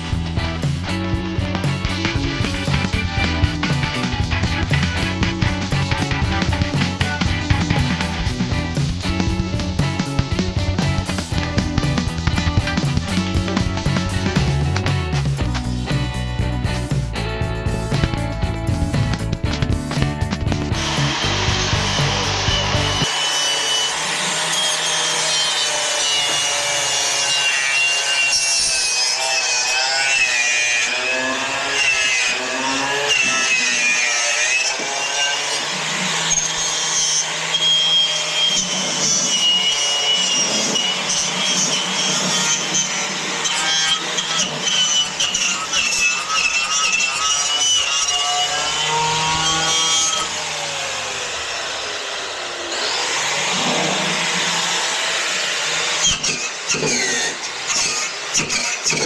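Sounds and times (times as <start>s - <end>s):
angle grinder cutting sheet metal: 0.0s - 59.0s.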